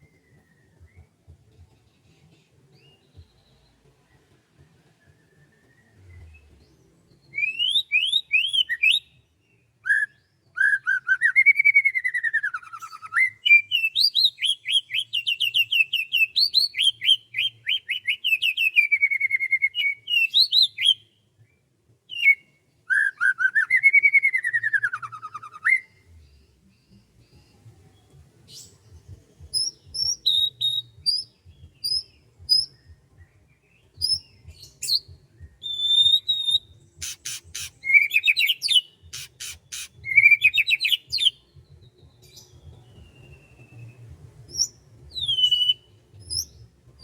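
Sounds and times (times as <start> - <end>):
songbird chirping: 0.0 - 47.0.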